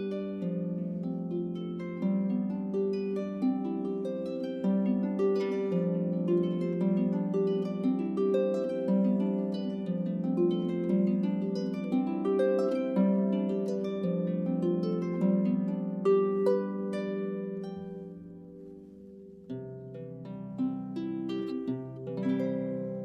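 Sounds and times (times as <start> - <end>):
harp music: 0.0 - 23.0.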